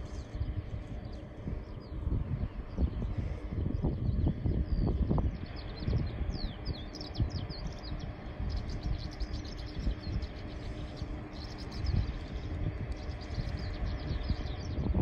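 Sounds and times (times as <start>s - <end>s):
small birds chirping: 0.0s - 15.0s
wind buffeting microphone: 0.0s - 15.0s.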